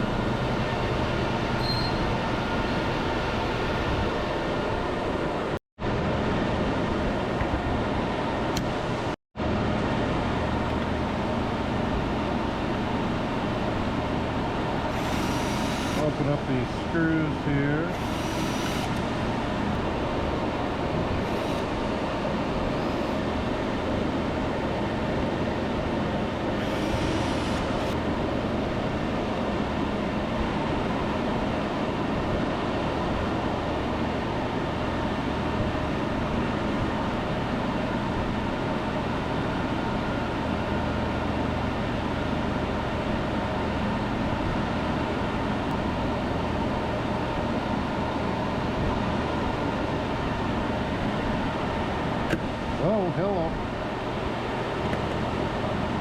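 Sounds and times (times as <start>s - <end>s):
fans whirring: 0.0s - 56.0s
faint steady whine: 6.6s - 56.0s.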